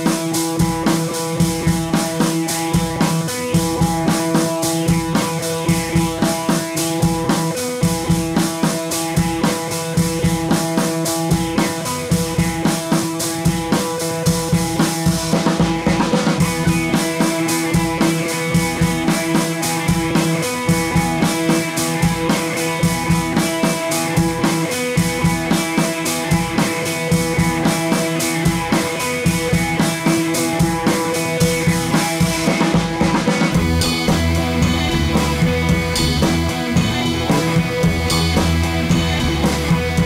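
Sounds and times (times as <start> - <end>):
drum kit beat: 0.0 - 40.0
sustained guitar tones: 0.0 - 40.0.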